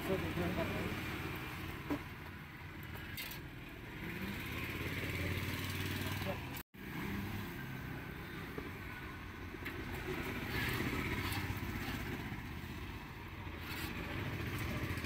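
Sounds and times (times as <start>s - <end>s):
motorcycle engines running: 0.0s - 15.0s
roadside traffic: 0.0s - 15.0s.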